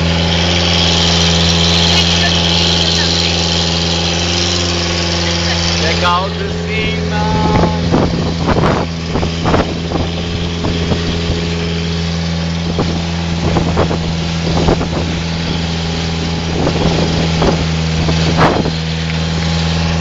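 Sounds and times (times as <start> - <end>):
boat motor droning: 0.0 - 20.0
rushing wind: 0.0 - 20.0
water noise: 0.0 - 20.0.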